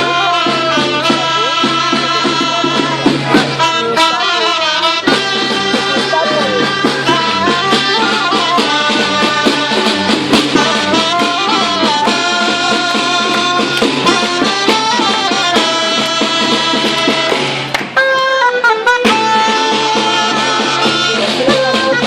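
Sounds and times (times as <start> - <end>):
small ensemble playing live music: 0.0 - 22.0.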